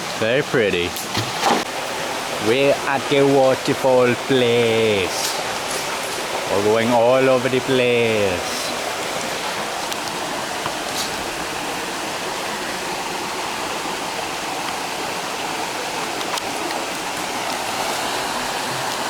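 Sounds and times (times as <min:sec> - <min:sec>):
waterfall rushing water: 0:00.0 - 0:19.0.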